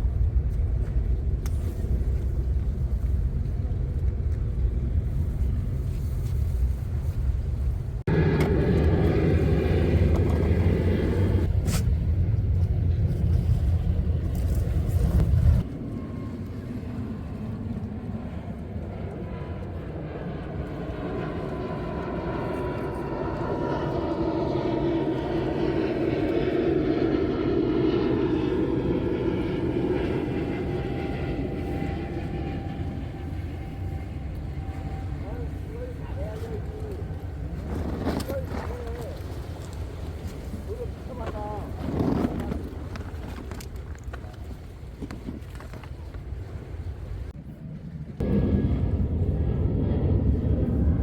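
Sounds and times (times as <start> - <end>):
engine drone with faint whine: 0.0 - 51.0.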